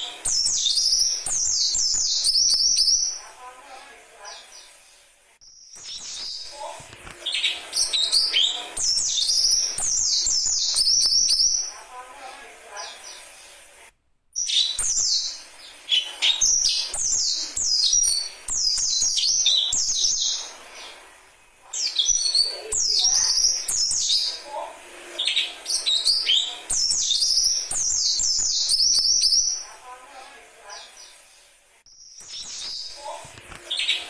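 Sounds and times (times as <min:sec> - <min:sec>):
bird chicks chirping: 0:00.0 - 0:13.5, 0:14.4 - 0:21.1, 0:21.7 - 0:31.3, 0:31.9 - 0:34.0.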